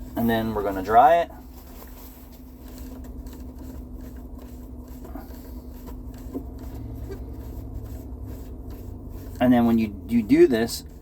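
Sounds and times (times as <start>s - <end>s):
faint rubbing: 0.0s - 11.0s.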